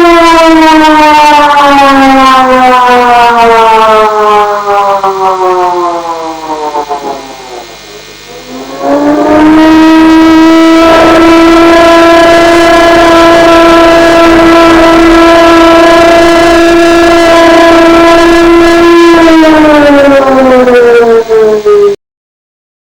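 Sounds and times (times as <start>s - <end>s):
loud distorted siren wailing: 0.0s - 22.0s.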